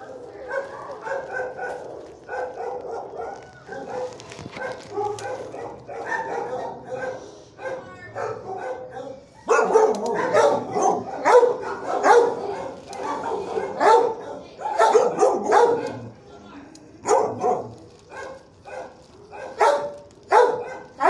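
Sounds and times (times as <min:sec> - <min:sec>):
dogs barking: 0:00.0 - 0:16.2, 0:17.0 - 0:21.0.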